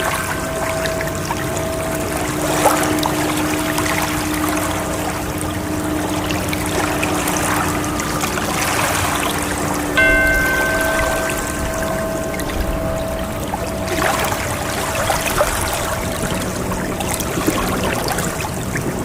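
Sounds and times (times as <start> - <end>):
soft held tones: 0.0 - 17.8
bell-like tone ringing: 0.0 - 18.2
ocean waves washing: 0.0 - 19.0.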